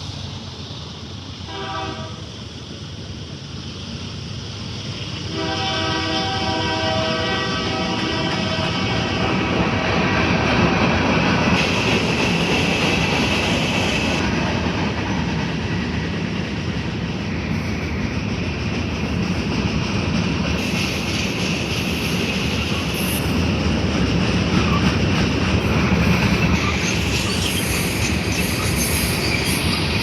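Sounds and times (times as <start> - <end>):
high whine from train wheels: 0.0 - 30.0
train wheels rumbling on rails: 0.0 - 30.0.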